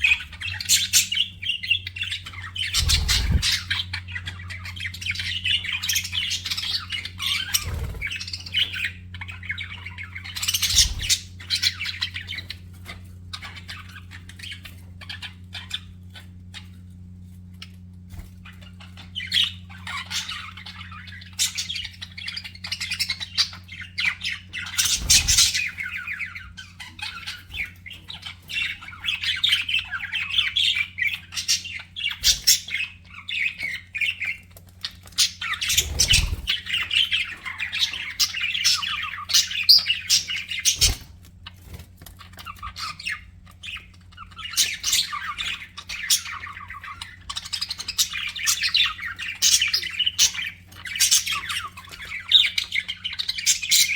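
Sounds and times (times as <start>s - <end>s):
steady low hum: 0.0s - 52.2s
budgerigars chattering and squawking: 0.0s - 53.9s.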